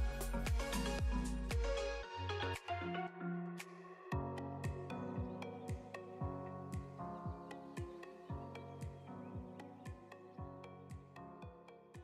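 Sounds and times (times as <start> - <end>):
upbeat music with kick drum: 0.0 - 1.9, 4.2 - 12.0.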